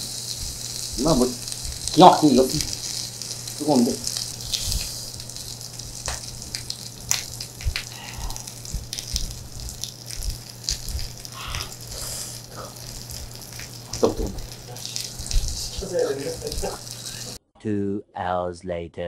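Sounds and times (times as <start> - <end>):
hissing breaths: 0.0 - 17.4
low steady hum: 0.0 - 17.4
meat sizzling on grill pan: 0.0 - 17.4
plastic gloves crinkling: 0.0 - 17.4.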